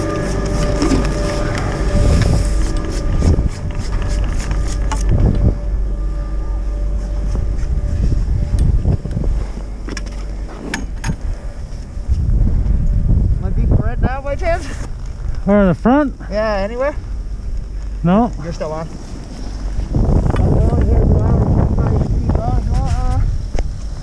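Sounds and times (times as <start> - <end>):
chairlift machinery humming: 0.0 - 24.0
whining tones: 0.0 - 24.0
wind rumble on microphone: 0.0 - 24.0.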